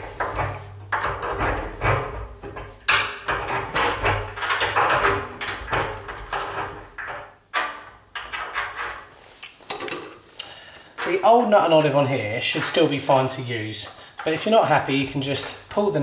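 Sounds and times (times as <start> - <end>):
spanner scraping and knocking metal: 0.0 - 10.2, 11.0 - 16.0.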